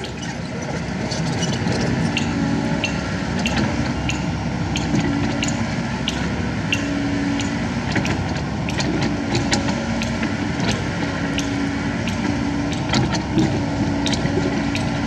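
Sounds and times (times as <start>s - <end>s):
excavator diesel engine running: 0.0s - 15.0s
machine clicks and knocks: 2.2s - 15.0s.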